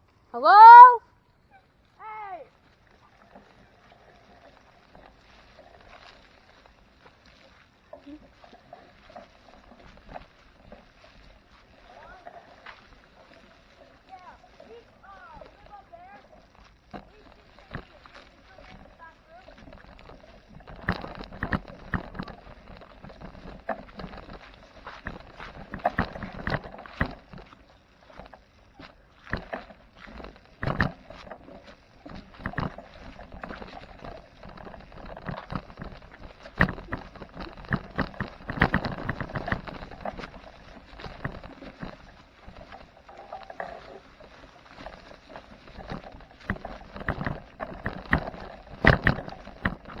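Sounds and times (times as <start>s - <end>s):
footsteps crunching on woodland floor: 4.7s - 50.0s.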